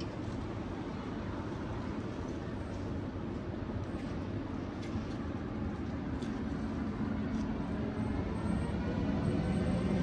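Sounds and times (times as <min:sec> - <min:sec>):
locomotive hum: 0:00.0 - 0:10.0
train wheels rumbling on rails: 0:00.0 - 0:10.0.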